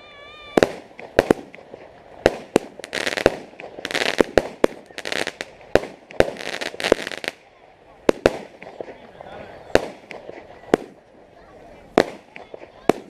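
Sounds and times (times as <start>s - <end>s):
crackling fizz of fireworks: 0.0s - 13.0s
fireworks bangs: 0.0s - 13.0s.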